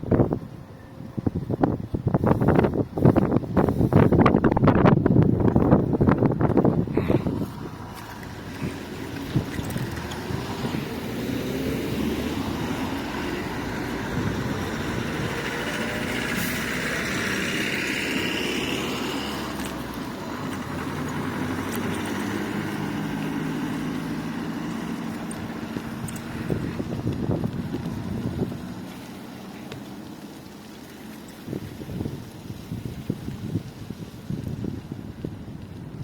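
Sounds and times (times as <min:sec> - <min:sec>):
vehicle engine running: 0:00.0 - 0:31.1
road noise: 0:00.0 - 0:36.0.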